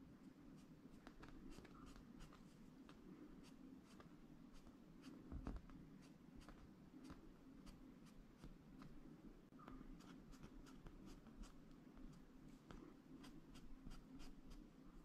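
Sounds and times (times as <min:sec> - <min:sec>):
brush scratching on canvas: 0:00.2 - 0:02.8, 0:03.4 - 0:08.9, 0:09.9 - 0:14.8.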